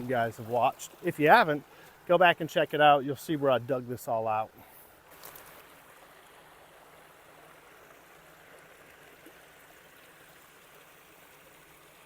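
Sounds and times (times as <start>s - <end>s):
creek flowing over small waterfall: 0.0s - 12.0s.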